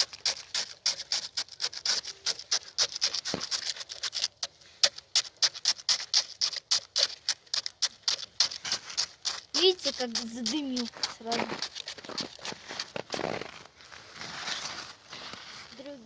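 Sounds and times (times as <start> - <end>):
log fire crackling and popping: 0.0 - 13.2.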